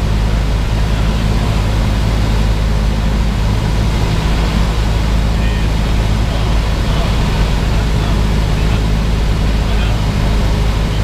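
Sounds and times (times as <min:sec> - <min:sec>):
light aircraft engine drone: 0:00.0 - 0:11.0.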